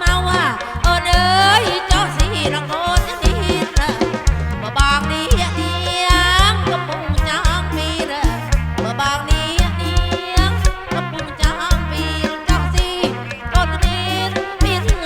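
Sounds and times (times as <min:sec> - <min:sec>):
band music over a pa: 0:00.0 - 0:15.0
steady drum beat: 0:00.0 - 0:15.0
stepping bass line: 0:00.0 - 0:15.0.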